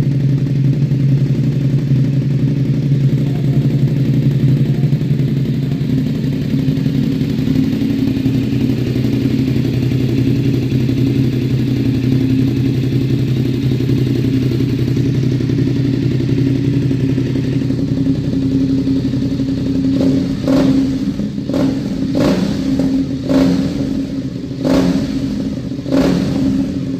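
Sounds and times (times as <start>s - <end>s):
motorcycle engine idling: 0.0s - 26.9s.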